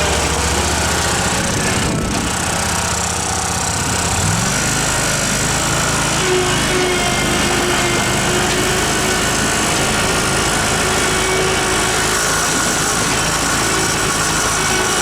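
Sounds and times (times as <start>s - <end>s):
mower engine running: 0.0s - 15.0s.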